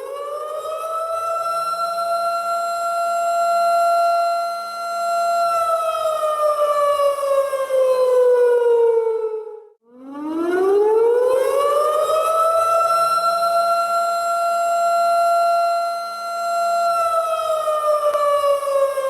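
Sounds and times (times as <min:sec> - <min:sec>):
alarm siren wailing: 0:00.0 - 0:19.0.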